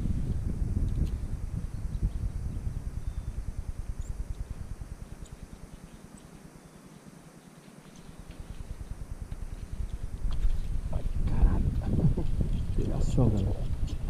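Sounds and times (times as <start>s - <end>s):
wind buffeting microphone: 0.0s - 5.9s, 8.0s - 14.0s.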